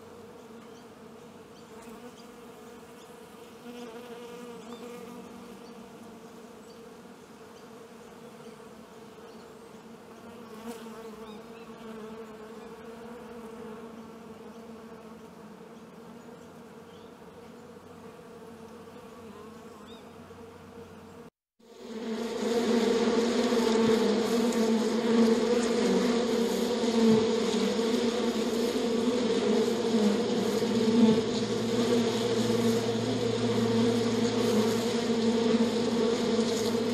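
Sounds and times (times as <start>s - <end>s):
bees buzzing: 0.0s - 36.9s.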